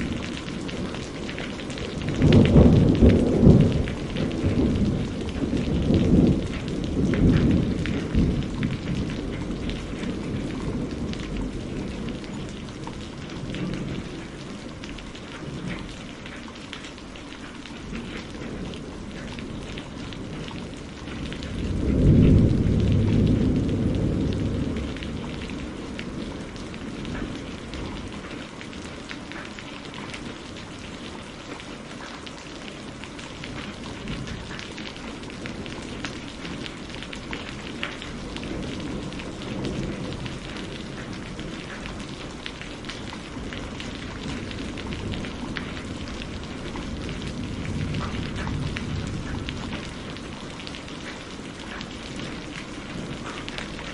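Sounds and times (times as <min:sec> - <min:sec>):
thunder rolling: 0:00.0 - 0:14.7, 0:17.9 - 0:28.4, 0:32.9 - 0:53.9
rain pattering: 0:00.0 - 0:53.9.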